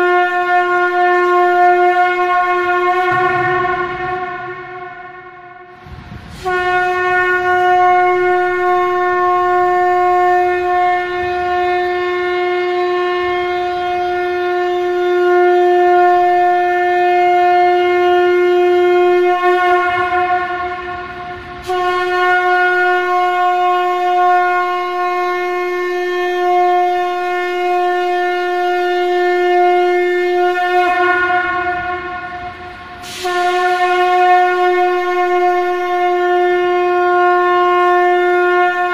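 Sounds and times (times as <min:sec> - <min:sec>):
conch shell blasts: 0:00.0 - 0:38.9.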